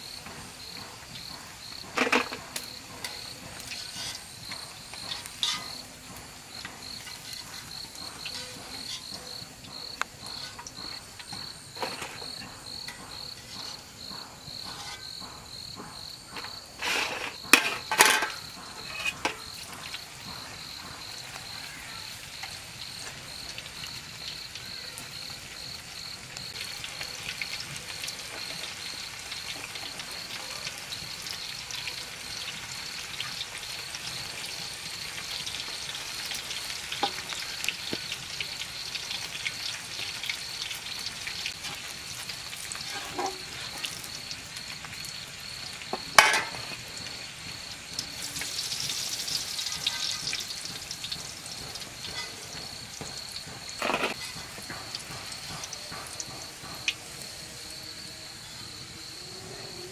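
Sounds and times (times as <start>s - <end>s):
sizzling hiss: 0.0s - 59.8s
insect chirping: 0.0s - 59.9s.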